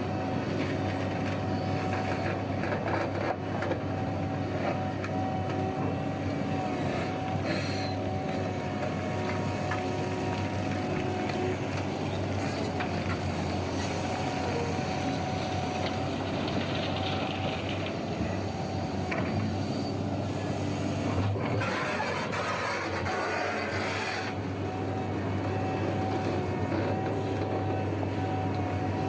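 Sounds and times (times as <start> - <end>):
diesel machinery engine drone: 0.0 - 29.0.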